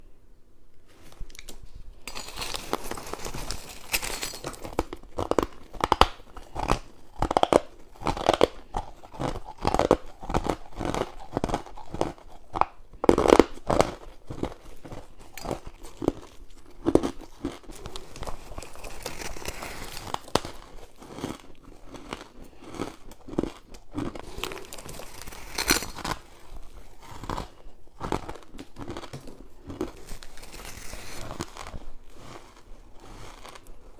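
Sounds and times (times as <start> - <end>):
crunching ice being chewed: 2.1 - 33.9.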